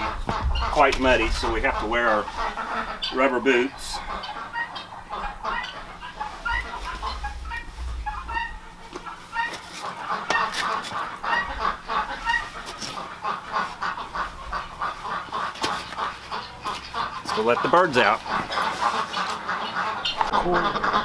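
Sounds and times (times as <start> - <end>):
poultry clucking and calling: 0.0 - 21.0.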